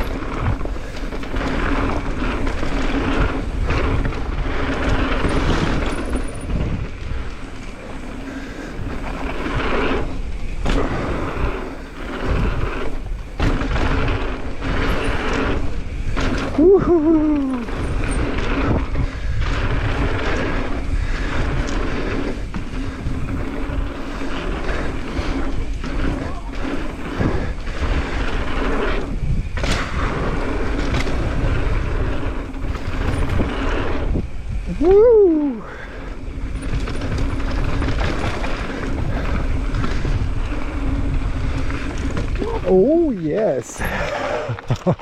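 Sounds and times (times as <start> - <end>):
bike ride rumble and rattle: 0.0 - 45.0
wind buffeting microphone: 0.0 - 45.0.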